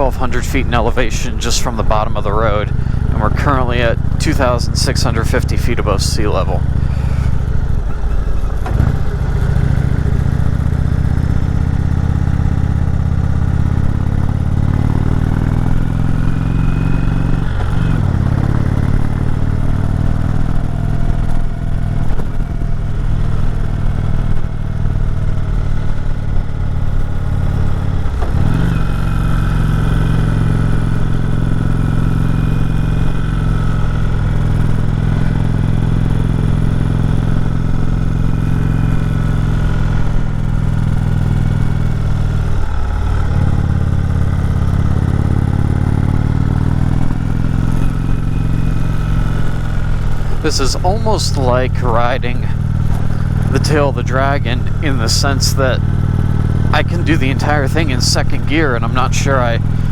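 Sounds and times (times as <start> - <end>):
motorcycle engine under load: 0.0 - 59.9.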